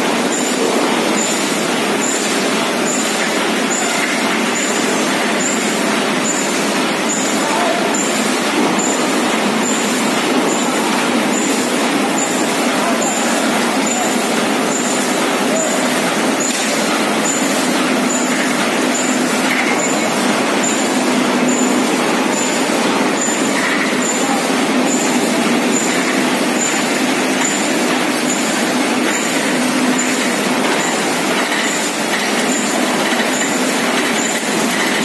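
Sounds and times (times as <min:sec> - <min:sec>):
welding machine running: 0:00.0 - 0:35.0.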